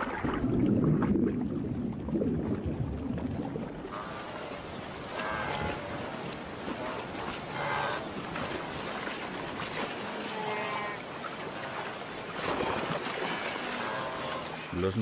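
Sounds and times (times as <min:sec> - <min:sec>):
water splashing and churning: 0:00.0 - 0:15.0.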